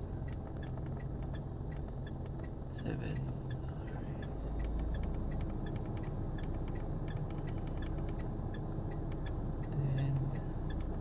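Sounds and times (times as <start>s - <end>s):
car engine idling: 0.0s - 11.0s
faint ticking: 0.0s - 11.0s.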